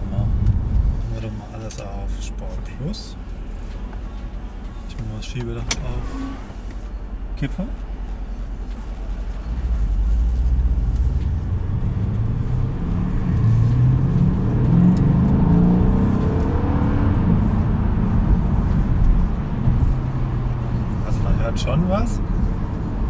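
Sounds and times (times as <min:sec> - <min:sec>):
car engine accelerating: 0:02.8 - 0:23.0.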